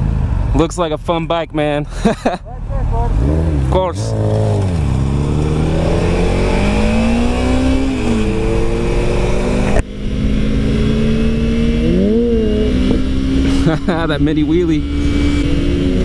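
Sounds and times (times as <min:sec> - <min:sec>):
motorcycle engines accelerating: 0:02.0 - 0:16.0.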